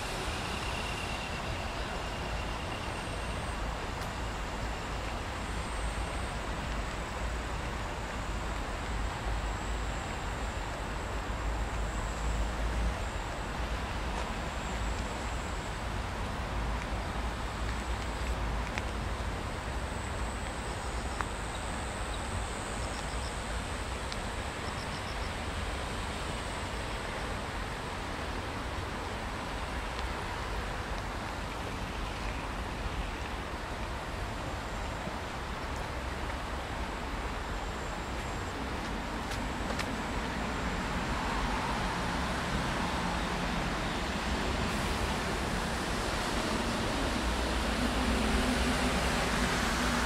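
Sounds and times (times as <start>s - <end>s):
constant hiss: 0.0s - 50.0s
distant road traffic rumble: 0.0s - 50.0s.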